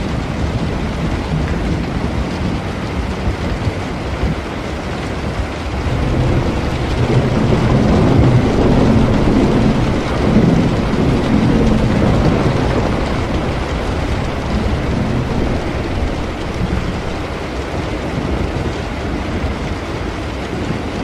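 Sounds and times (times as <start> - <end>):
low roll of thunder: 0.0 - 21.0
steady rain: 0.0 - 21.0.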